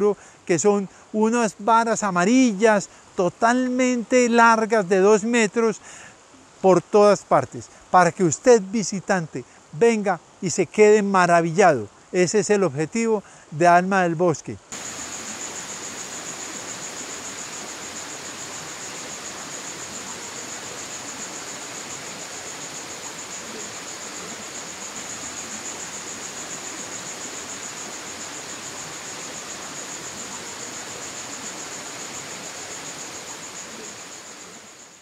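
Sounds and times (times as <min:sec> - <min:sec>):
forest stream rushing: 0:00.0 - 0:35.0
insect trill: 0:00.0 - 0:35.0.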